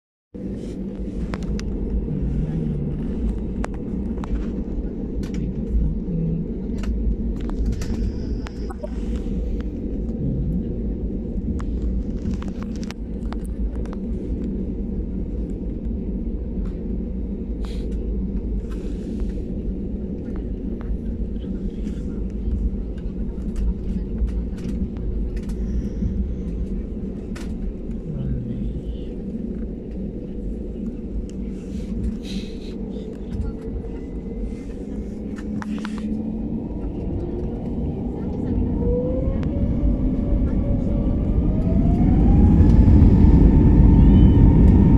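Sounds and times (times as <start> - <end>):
jet engine rumble: 0.4 - 44.9.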